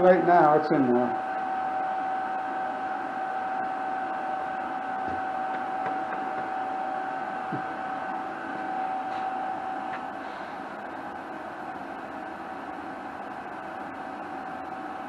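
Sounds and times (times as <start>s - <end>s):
machine hum with high tone: 0.0s - 15.0s.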